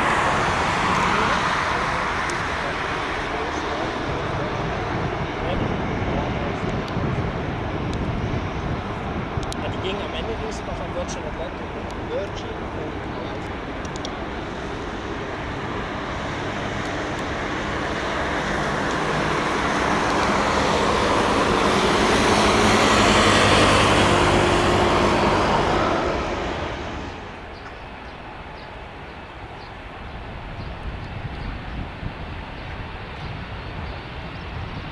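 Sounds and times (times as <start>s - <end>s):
jet engines at taxi power: 0.0s - 34.9s.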